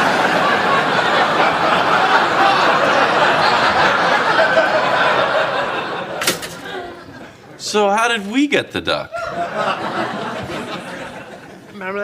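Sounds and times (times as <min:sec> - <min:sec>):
studio audience laughing: 0:00.0 - 0:07.6, 0:09.1 - 0:11.7.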